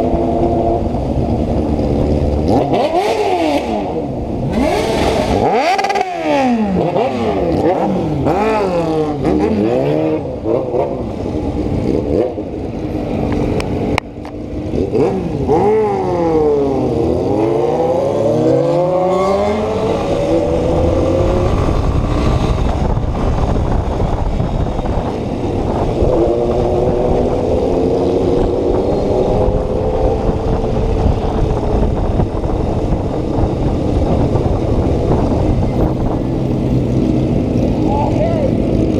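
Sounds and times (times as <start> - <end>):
motorcycle engine revving: 0.0 - 38.9
wind rumble on microphone: 0.0 - 38.9.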